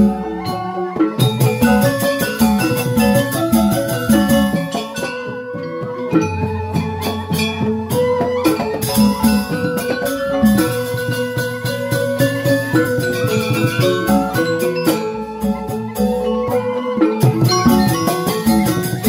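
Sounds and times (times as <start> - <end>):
gamelan metallophones playing: 0.0 - 19.0
hand drum strokes: 0.0 - 19.0.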